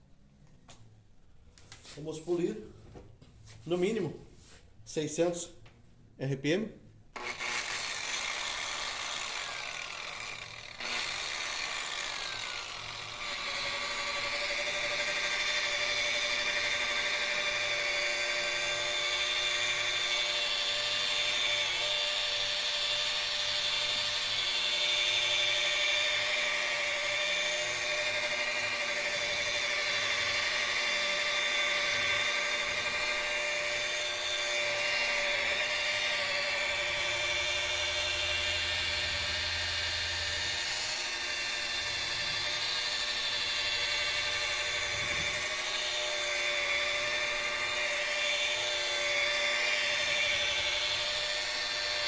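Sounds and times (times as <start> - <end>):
rotary polisher whining: 7.2 - 52.0.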